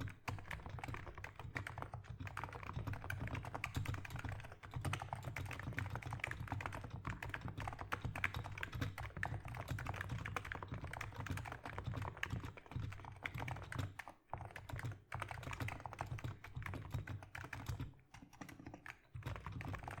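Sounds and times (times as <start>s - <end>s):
fast typing on keyboard: 0.0s - 20.0s.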